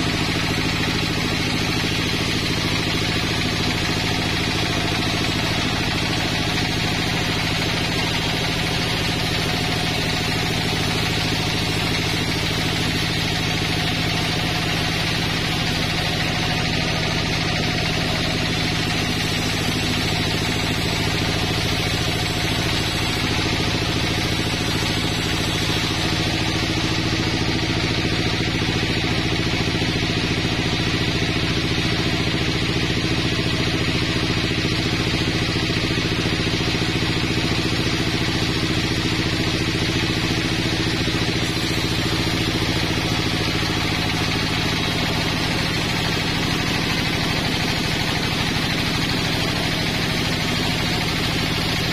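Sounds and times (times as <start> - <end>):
sawmill saw cutting log: 0.0 - 51.9.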